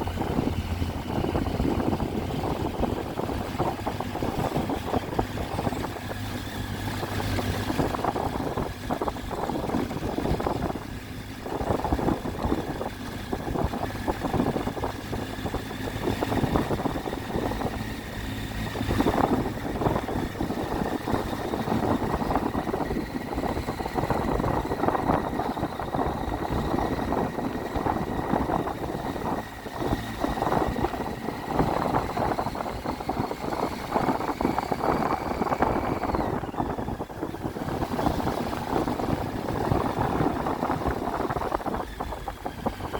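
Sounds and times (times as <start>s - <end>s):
motorcycle engine running: 0.0s - 42.9s
road noise: 0.0s - 42.9s.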